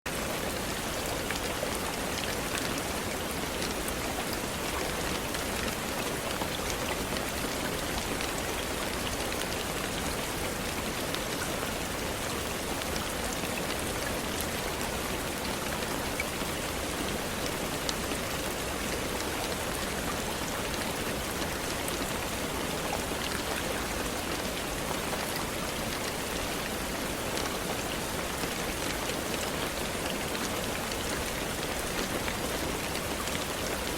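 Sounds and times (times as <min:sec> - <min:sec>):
steady rain: 0:00.1 - 0:33.9.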